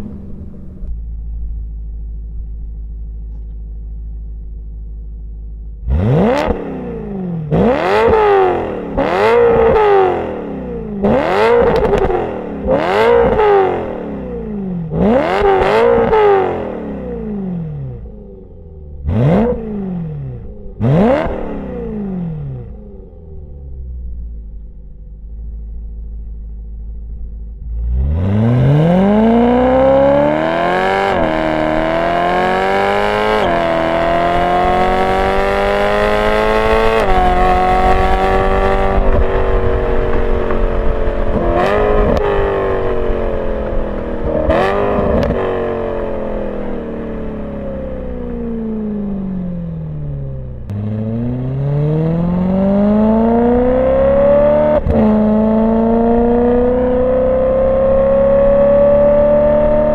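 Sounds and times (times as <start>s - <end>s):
car engine idling and accelerating: 0.0s - 59.9s.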